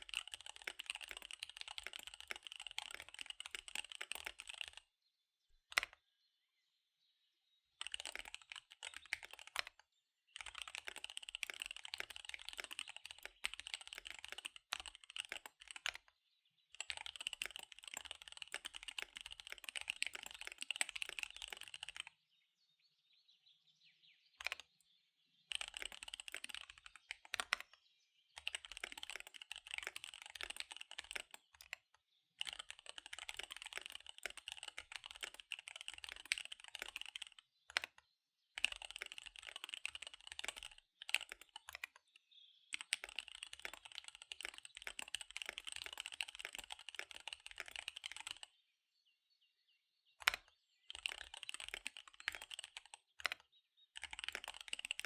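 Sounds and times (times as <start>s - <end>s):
mechanical keyboard typing: 0.0s - 4.8s, 5.7s - 6.0s, 7.8s - 9.8s, 10.4s - 16.1s, 16.8s - 22.1s, 24.4s - 24.6s, 25.5s - 27.7s, 28.4s - 38.0s, 38.6s - 42.0s, 42.7s - 48.5s, 50.2s - 55.0s.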